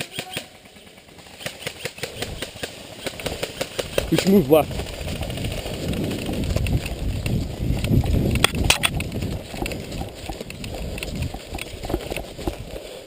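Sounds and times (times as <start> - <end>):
footsteps running on ground: 2.2 - 13.0.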